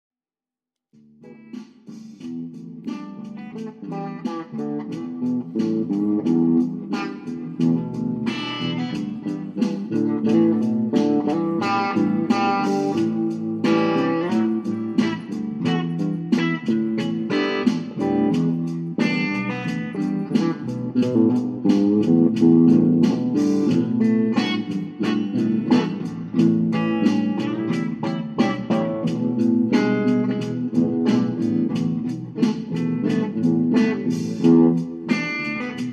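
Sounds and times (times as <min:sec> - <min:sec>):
guitar picking a melody: 0:01.0 - 0:35.9.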